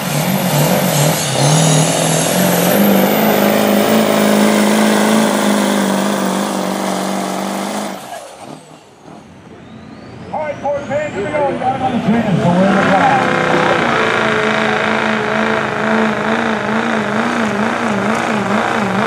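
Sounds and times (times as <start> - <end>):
diesel truck engine at full throttle: 0.0 - 19.0.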